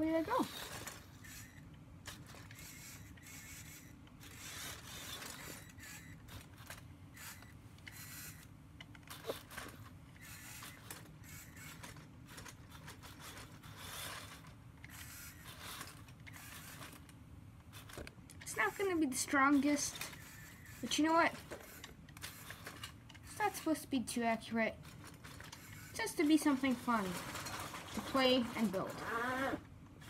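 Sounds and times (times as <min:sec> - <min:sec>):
toy truck motor whirring: 0:00.0 - 0:29.7.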